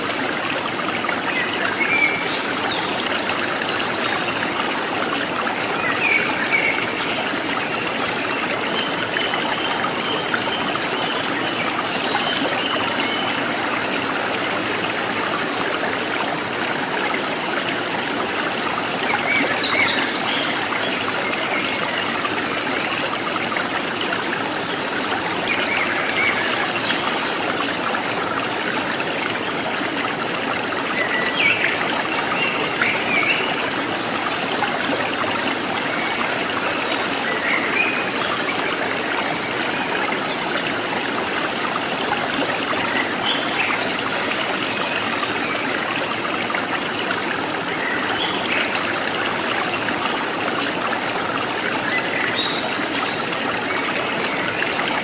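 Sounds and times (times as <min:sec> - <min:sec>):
stream trickling and splashing: 0:00.0 - 0:55.0.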